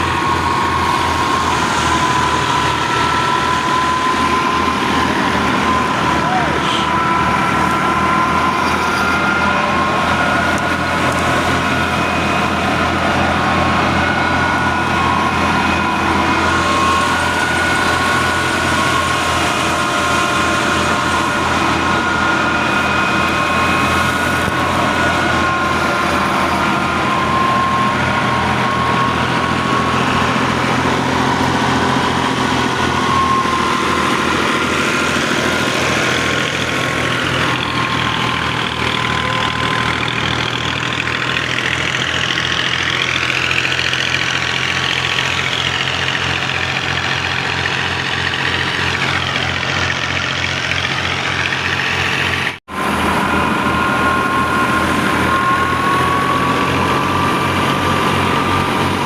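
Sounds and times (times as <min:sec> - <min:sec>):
thresher high whine: 0:00.0 - 0:59.0
tractor diesel engine running: 0:00.0 - 0:59.0.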